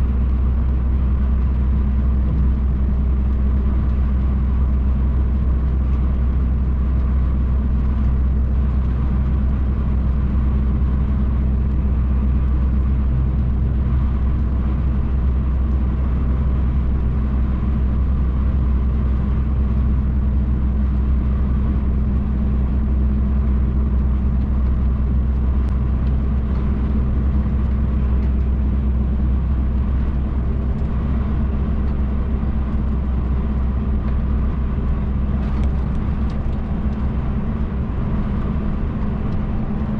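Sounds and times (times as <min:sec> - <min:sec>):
diesel truck engine drone: 0:00.0 - 0:39.9
road and tyre rumble: 0:00.0 - 0:39.9.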